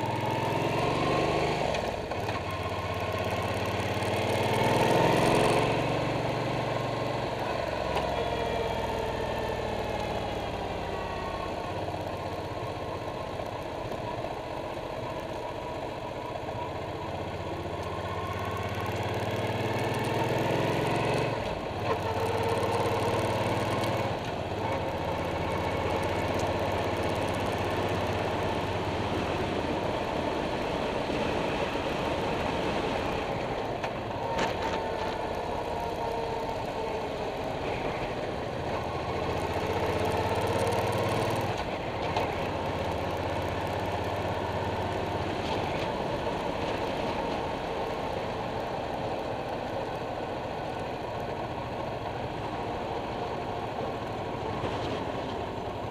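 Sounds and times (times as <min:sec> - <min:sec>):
motorcycle engine running: 0:00.0 - 0:55.9
road noise: 0:00.0 - 0:55.9.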